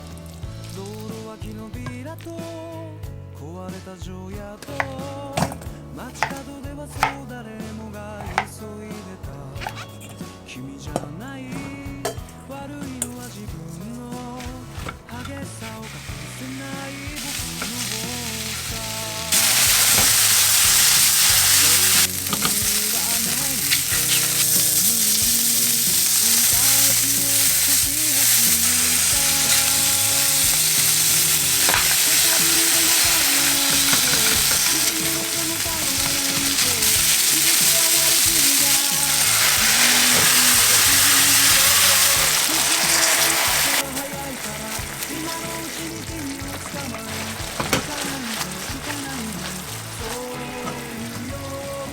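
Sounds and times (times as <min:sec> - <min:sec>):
food sizzling in a pan: 0:00.0 - 0:02.4, 0:04.6 - 0:07.3, 0:08.2 - 0:08.6, 0:12.8 - 0:51.9
song playing: 0:00.0 - 0:51.9.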